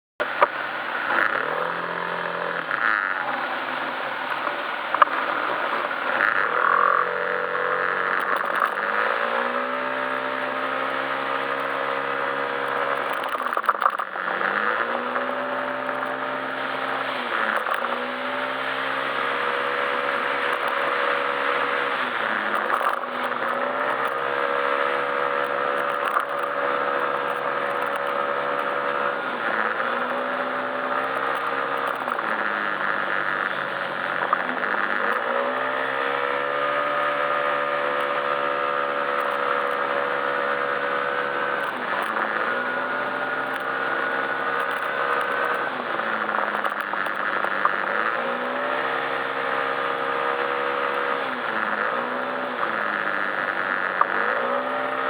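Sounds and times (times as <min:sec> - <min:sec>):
scooter engine revving: 0:00.2 - 0:55.0.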